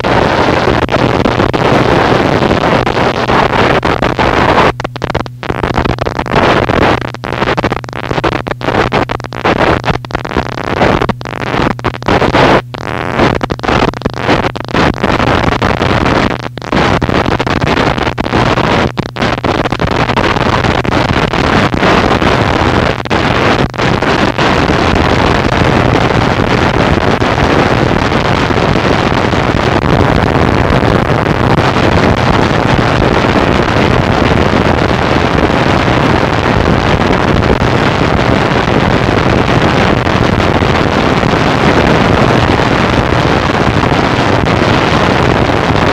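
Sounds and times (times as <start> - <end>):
distorted static noise wall: 0.0 - 45.9
low steady hum: 0.0 - 45.9.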